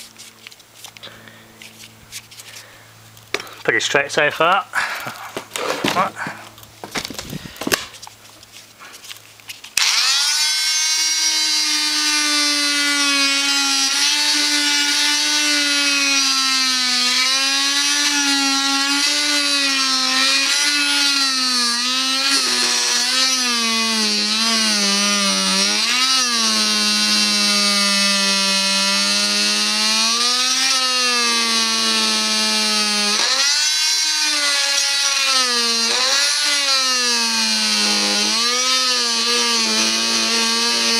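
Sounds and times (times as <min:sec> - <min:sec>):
oscillating multi-tool sawing wood: 0:00.0 - 0:04.0, 0:04.9 - 0:40.9.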